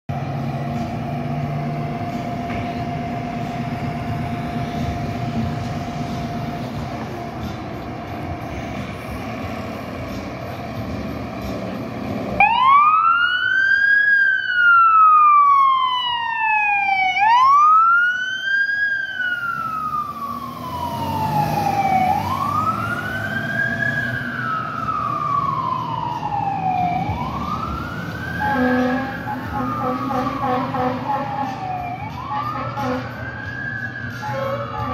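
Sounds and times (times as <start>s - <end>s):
fire engine siren wailing: 0.1s - 34.9s.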